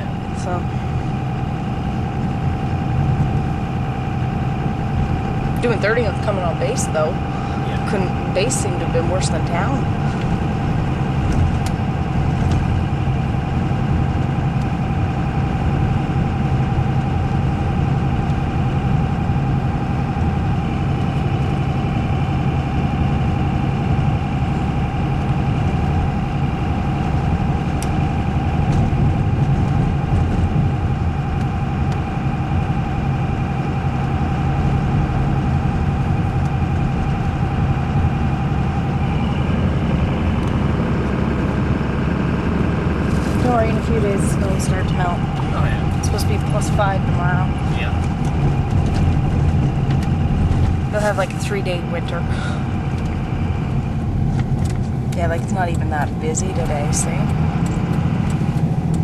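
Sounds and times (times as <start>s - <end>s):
car engine and road noise: 0.0s - 59.0s
thin steady whine: 0.0s - 59.0s.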